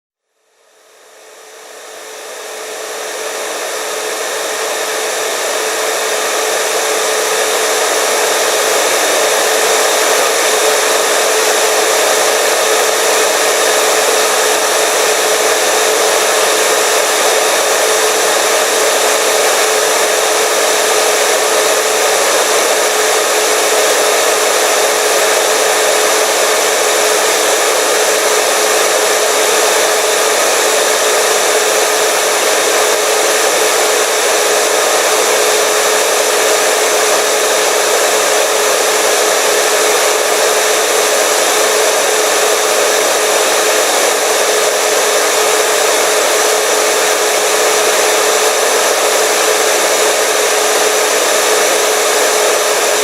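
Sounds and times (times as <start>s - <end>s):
hair dryer running: 0.3s - 53.0s.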